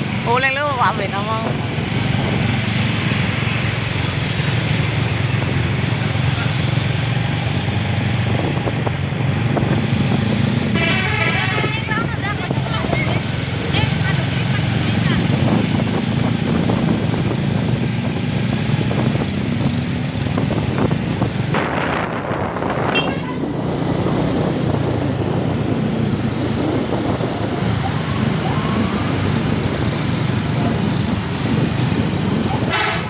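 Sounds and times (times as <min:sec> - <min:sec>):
bus engine rumbling: 0:00.0 - 0:33.0.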